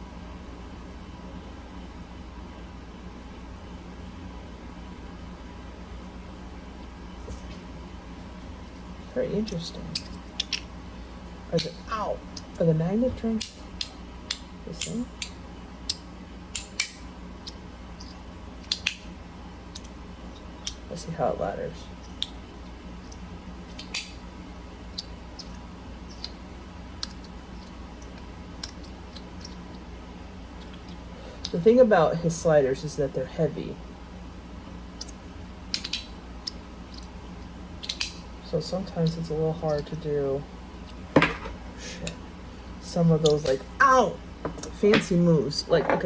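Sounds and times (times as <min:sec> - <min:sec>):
low background hum and hiss: 0:00.0 - 0:46.0.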